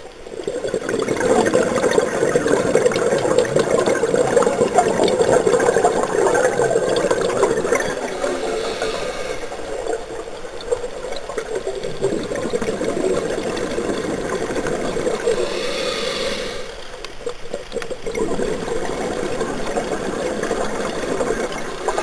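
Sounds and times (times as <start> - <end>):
regulator bubbles gurgling underwater: 0.0 - 22.0.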